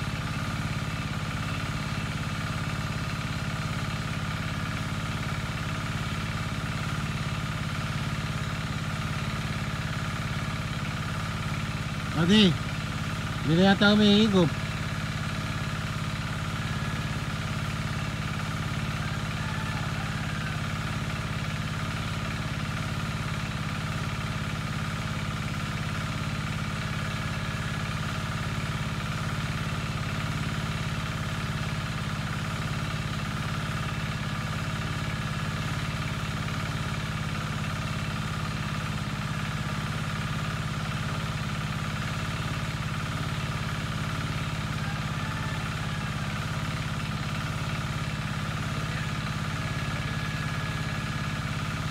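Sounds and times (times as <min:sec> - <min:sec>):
small engine running steadily: 0:00.0 - 0:51.9.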